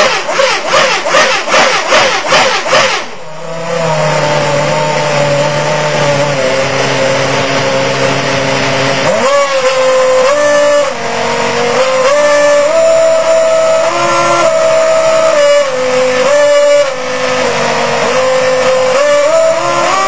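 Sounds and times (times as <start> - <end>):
racing car engine throttle blips: 0.0 - 20.0
steady engine drone with hiss: 0.0 - 20.0.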